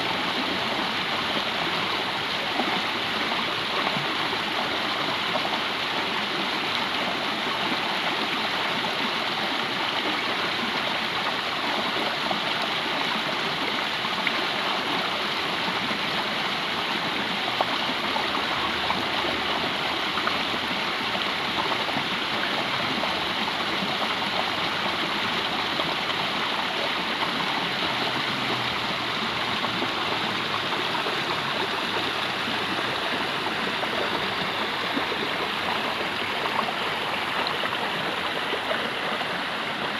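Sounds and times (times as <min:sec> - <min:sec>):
stream gurgling over rocks: 0:00.0 - 0:39.9.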